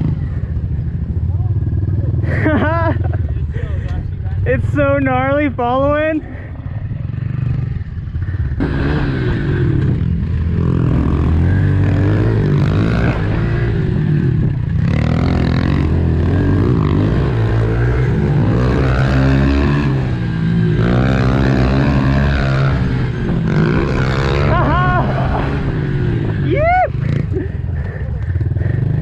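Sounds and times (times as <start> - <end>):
dirt bike engine revving: 4.4 - 29.0.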